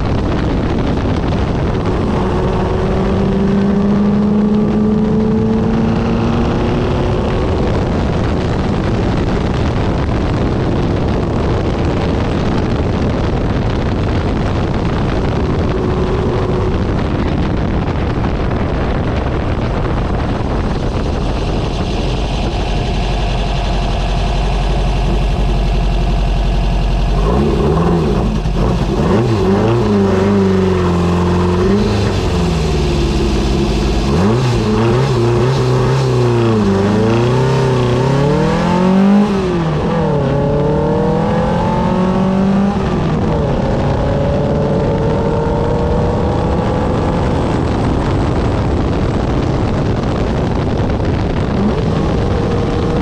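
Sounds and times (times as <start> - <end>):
race car engine revving: 0.0 - 53.0
wind and road noise: 0.0 - 53.0.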